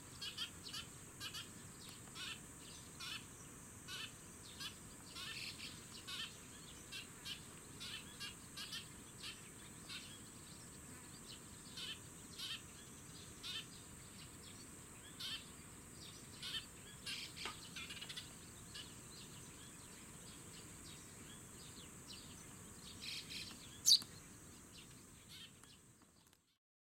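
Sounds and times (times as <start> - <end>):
sparrows chirping: 0.0 - 26.6.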